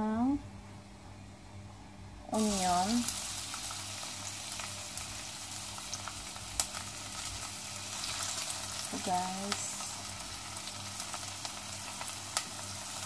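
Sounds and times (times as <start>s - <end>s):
onion sizzling in oil: 2.3s - 13.0s
crackles and pops: 2.5s - 13.0s.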